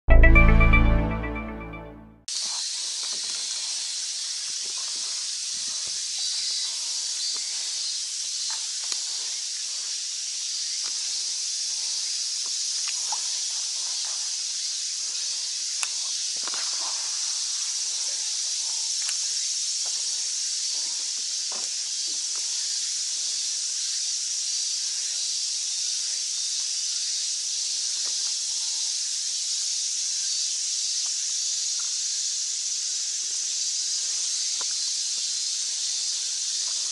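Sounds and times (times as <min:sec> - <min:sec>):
cicadas droning: 0:02.3 - 0:36.9.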